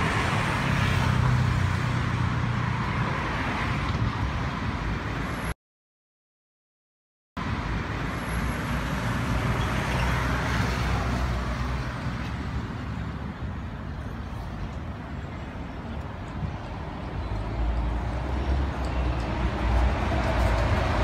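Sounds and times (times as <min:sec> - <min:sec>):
street traffic rumble: 0:00.0 - 0:05.6, 0:07.4 - 0:21.0.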